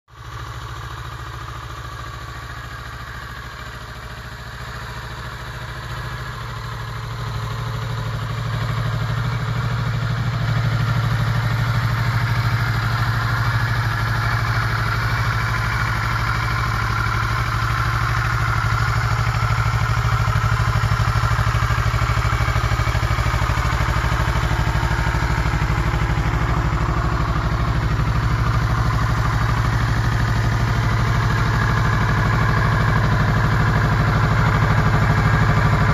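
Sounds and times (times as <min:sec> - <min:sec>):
motorcycle engine idling: 0:00.1 - 0:35.9.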